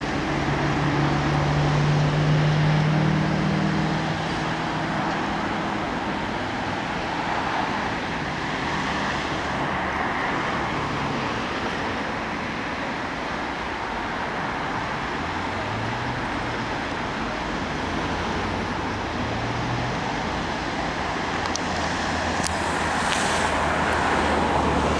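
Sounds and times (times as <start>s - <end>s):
passing vehicles rushing: 0.0s - 24.9s.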